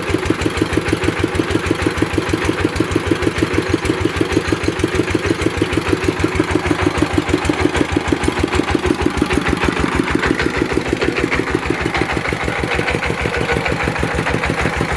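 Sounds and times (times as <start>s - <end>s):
drilling rig engine running: 0.0s - 14.9s.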